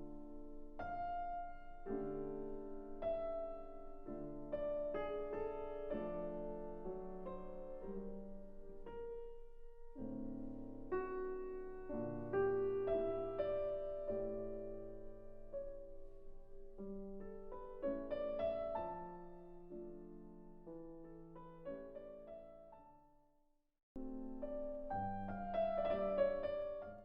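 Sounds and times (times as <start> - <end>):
gentle piano music: 0.0 - 23.3, 24.0 - 27.0.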